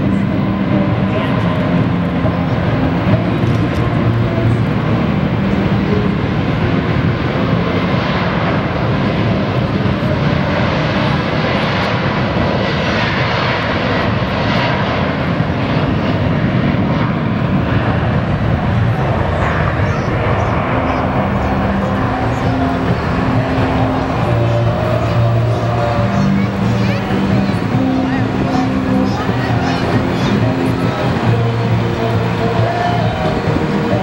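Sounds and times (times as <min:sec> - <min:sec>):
jet engines at takeoff thrust: 0:00.0 - 0:34.0.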